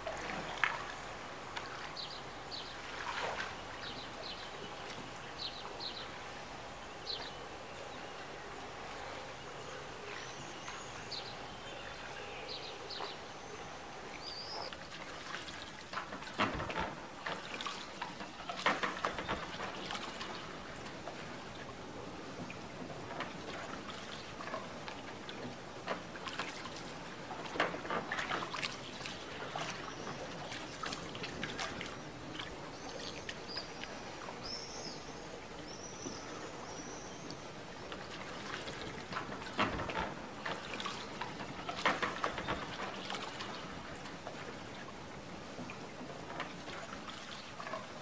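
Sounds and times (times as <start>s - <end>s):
water lapping against boat: 0.0s - 48.0s.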